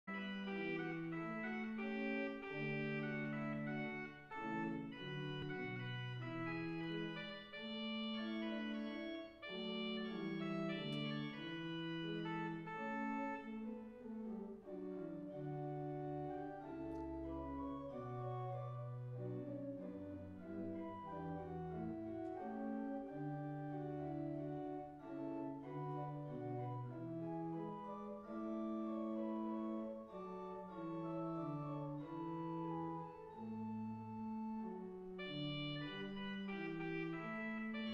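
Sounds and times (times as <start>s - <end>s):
church organ playing chords: 0.1s - 37.9s.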